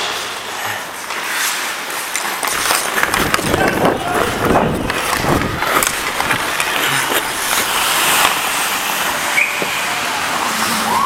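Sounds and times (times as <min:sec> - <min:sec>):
hockey sticks clacking: 0:00.0 - 0:11.0
skate blades hissing on ice: 0:00.0 - 0:11.0.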